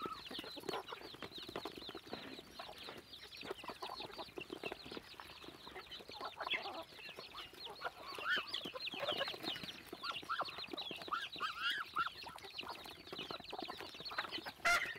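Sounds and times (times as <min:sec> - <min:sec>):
beaks tapping on feed: 0:00.0 - 0:14.9
chicks peeping: 0:00.0 - 0:14.9
hens clucking: 0:00.0 - 0:14.9.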